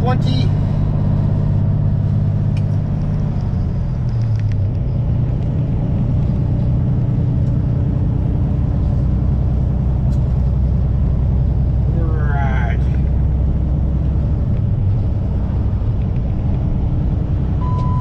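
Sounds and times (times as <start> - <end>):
road rumble: 0.0 - 18.0
truck diesel engine running: 0.0 - 18.0.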